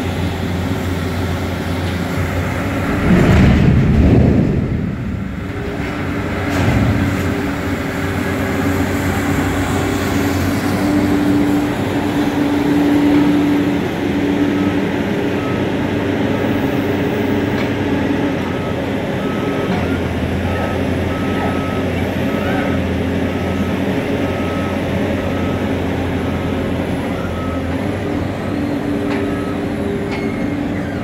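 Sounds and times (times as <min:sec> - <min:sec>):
material handler engine droning: 0:00.0 - 0:31.0.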